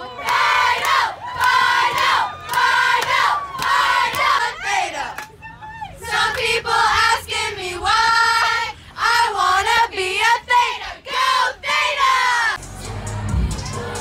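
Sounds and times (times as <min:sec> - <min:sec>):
women singing together: 0:00.0 - 0:05.3, 0:05.9 - 0:12.6.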